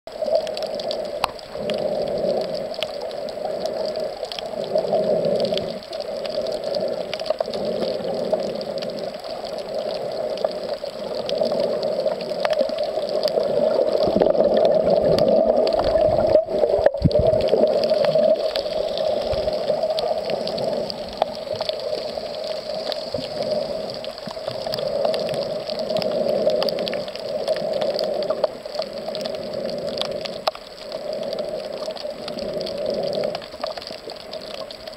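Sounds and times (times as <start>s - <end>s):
faint clicks and crackles: 0.1s - 34.9s
muffled underwater rush: 0.1s - 34.9s.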